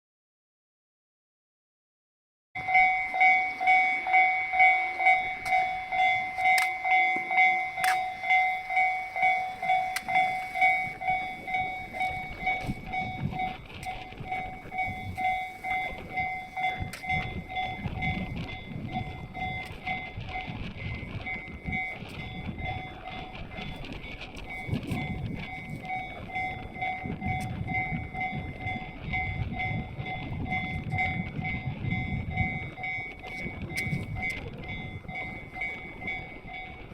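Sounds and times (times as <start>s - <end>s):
level-crossing warning bell ringing: 2.6s - 36.9s
low rumble: 2.6s - 36.9s.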